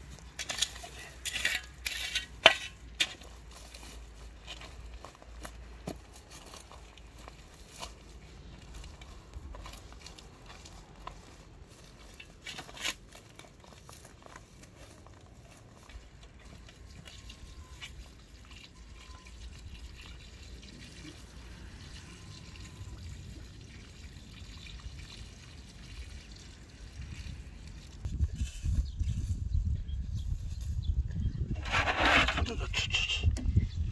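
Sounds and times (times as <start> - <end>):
water trickling onto soil: 0.0 - 28.8.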